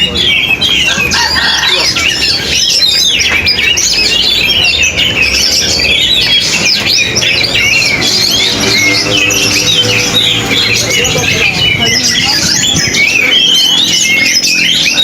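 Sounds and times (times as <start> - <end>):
songbird whistling and chattering: 0.0 - 15.0.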